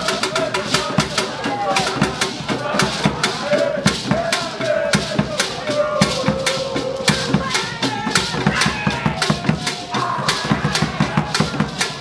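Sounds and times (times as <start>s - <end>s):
drum ensemble playing: 0.0s - 12.0s
voices calling: 0.0s - 12.0s.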